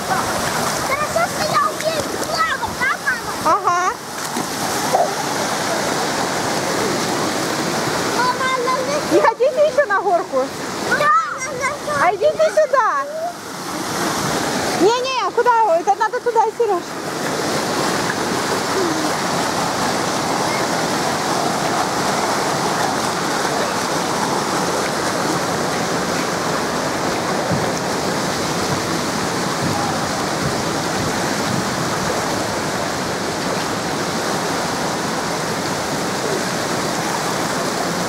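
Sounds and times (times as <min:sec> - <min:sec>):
water pouring and splashing: 0:00.0 - 0:38.0.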